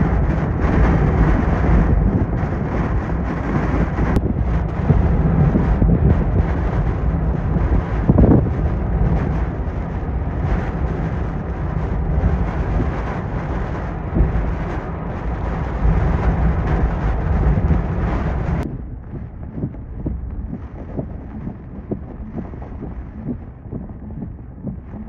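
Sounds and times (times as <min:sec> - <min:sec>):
heavy rain on a vehicle: 0:00.0 - 0:24.5
wind buffeting a vehicle: 0:00.0 - 0:25.0.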